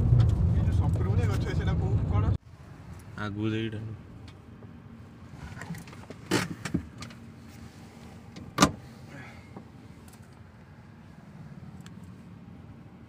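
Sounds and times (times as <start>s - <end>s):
road rumble inside car: 0.0s - 13.0s.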